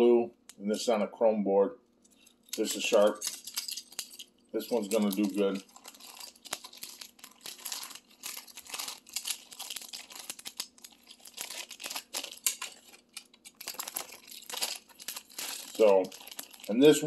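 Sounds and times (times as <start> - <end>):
plastic packaging crinkling and tearing: 2.2 - 17.0.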